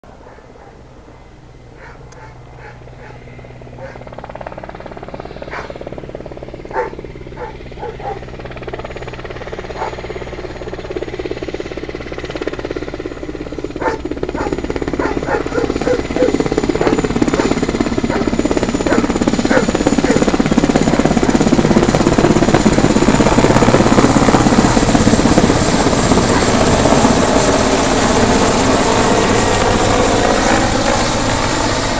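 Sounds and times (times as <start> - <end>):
helicopter rotor chop: 0.3 - 31.9.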